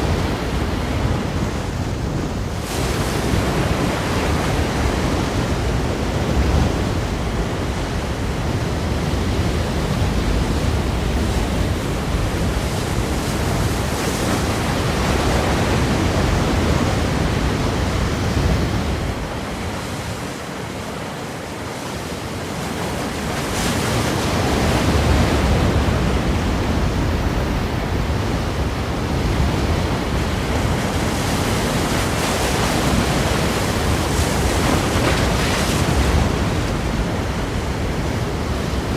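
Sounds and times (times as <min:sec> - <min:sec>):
ocean surf breaking against rocks: 0:00.0 - 0:38.9.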